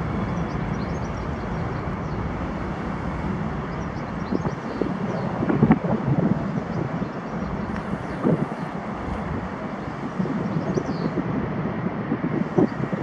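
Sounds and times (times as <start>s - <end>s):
jet airliner taking off: 0.0s - 13.0s.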